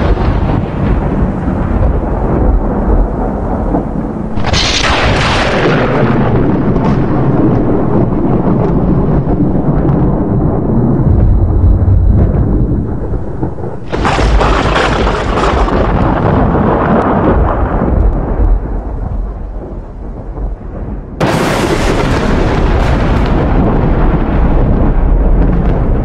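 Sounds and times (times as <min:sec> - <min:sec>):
thunder crack and rumble: 0:00.0 - 0:26.0.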